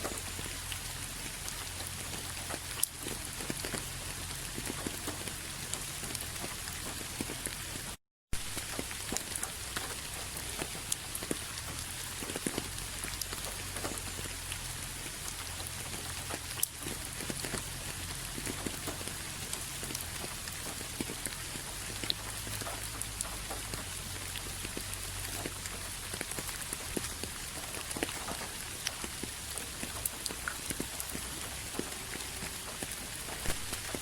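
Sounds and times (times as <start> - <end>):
rain drops ticking and splashing: 0.0 - 34.0.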